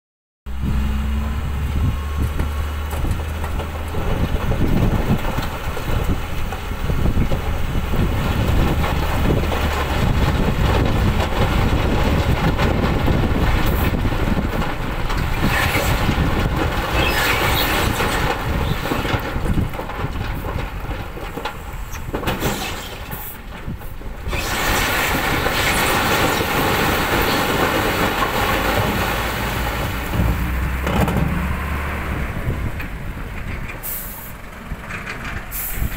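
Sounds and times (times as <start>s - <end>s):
diesel engine running: 0.5s - 35.9s
stones tumbling out of truck: 2.2s - 31.8s.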